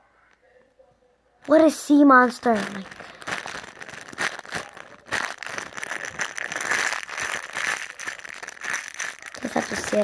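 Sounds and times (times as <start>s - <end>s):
plastic packaging crinkling: 1.4s - 10.0s.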